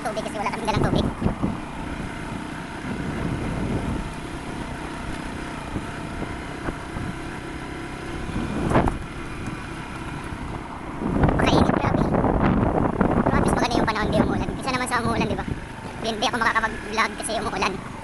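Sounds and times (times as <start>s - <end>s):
engine hum: 0.0s - 18.0s
wind buffeting microphone: 0.5s - 16.8s.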